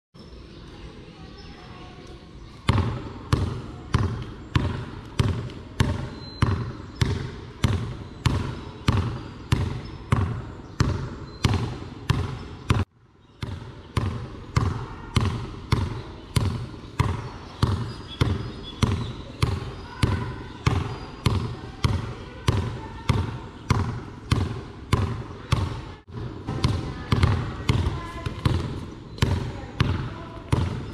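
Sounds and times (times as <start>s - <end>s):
basketball bouncing on concrete: 2.6s - 30.9s.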